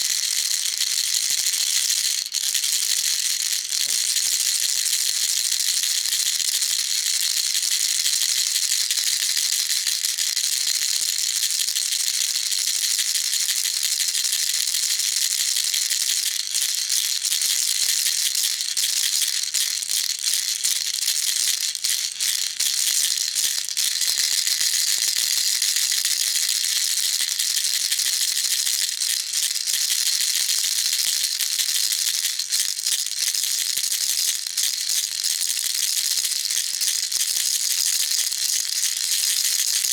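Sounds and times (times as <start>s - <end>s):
baby rattle shaking: 0.0s - 7.4s, 13.1s - 39.9s.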